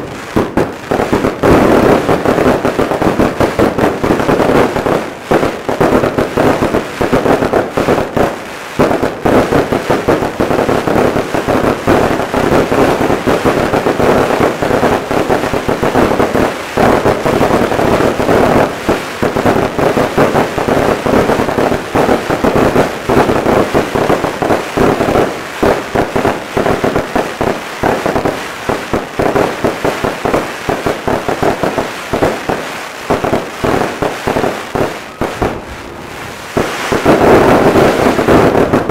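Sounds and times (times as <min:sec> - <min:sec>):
fireworks crackling and bangs: 0:00.0 - 0:38.9.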